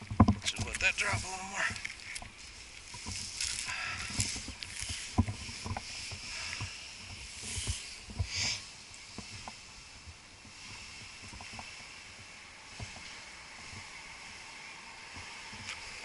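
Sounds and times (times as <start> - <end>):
faint steady hiss: 0.0 - 16.0
rustling swish of boughs: 0.6 - 16.0.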